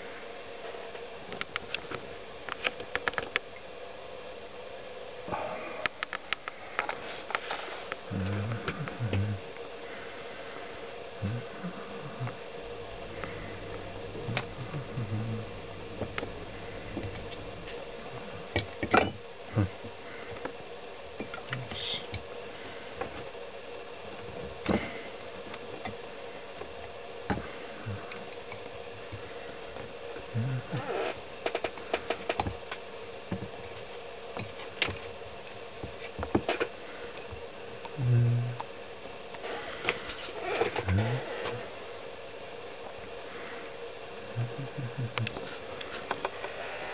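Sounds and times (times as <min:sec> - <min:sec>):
water heater coil humming: 0:00.0 - 0:46.9.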